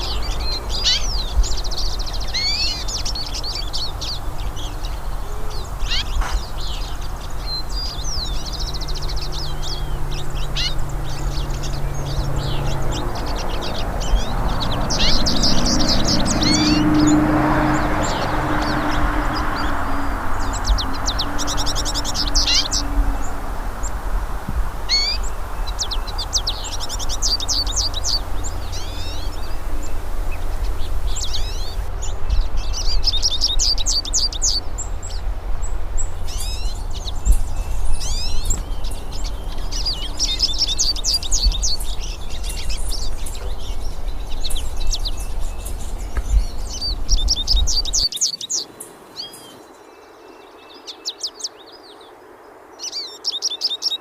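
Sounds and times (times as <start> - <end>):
steady low rumble: 0.0 - 48.1
birds twittering song: 0.0 - 54.0.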